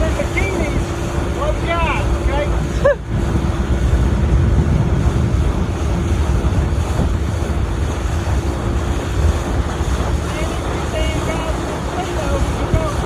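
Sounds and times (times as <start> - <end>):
boat rumble: 0.0 - 13.0
rushing water: 0.0 - 13.0
wind buffeting microphone: 0.0 - 13.0.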